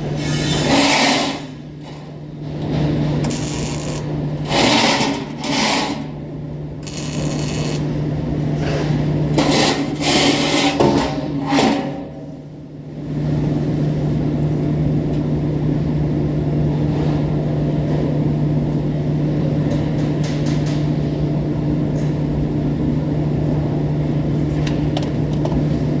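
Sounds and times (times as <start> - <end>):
machine hum with low drone: 0.0 - 26.0.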